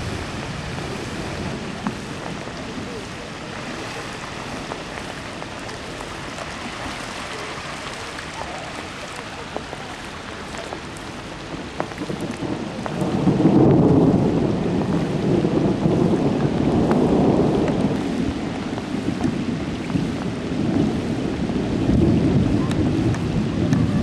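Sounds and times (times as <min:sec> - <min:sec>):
heavy rain falling: 0:00.0 - 0:24.0
rumble of thunder: 0:00.0 - 0:24.0.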